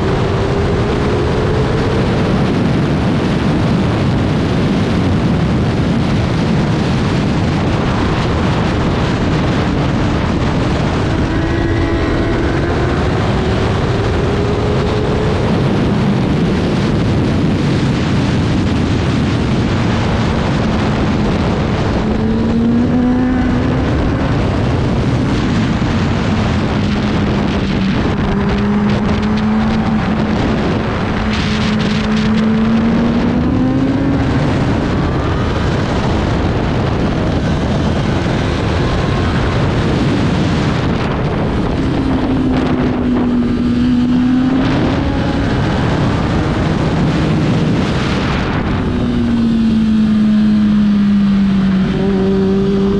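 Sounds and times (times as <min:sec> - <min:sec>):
racing motorcycle engine: 0:00.0 - 0:52.9
wind rush: 0:00.0 - 0:52.9.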